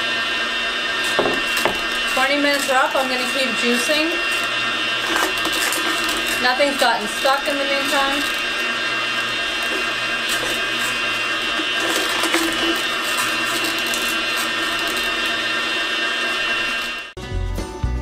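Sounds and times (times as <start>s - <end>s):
juicer motor hum with whine: 0.0s - 17.2s.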